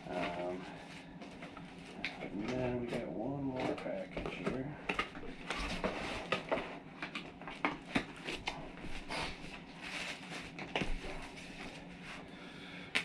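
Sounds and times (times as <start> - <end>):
packaging rustling and scraping: 0.1 - 12.3.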